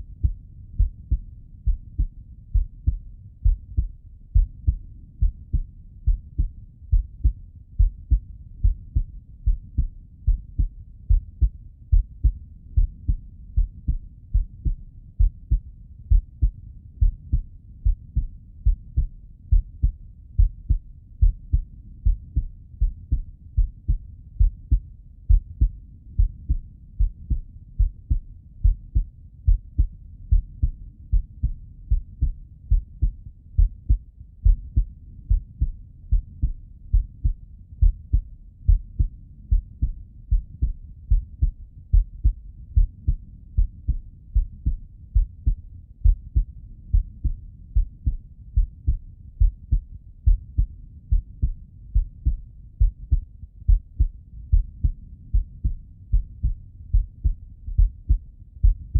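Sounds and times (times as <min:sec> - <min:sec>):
heartbeat thumps: 0:00.0 - 0:58.9.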